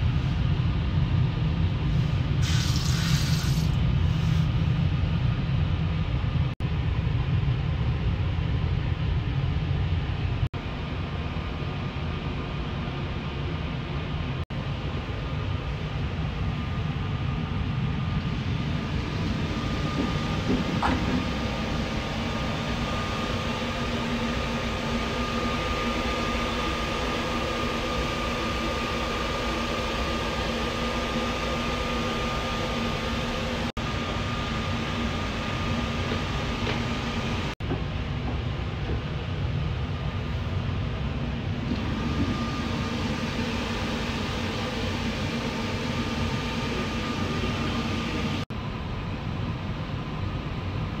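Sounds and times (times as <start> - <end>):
train interior rumble and hiss: 0.0 - 51.0.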